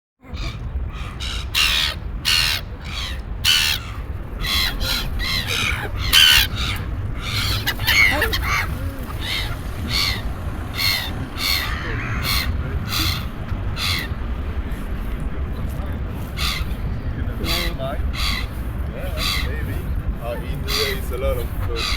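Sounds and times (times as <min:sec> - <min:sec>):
steady low rumble: 0:00.2 - 0:21.9
birds cawing: 0:00.3 - 0:21.9.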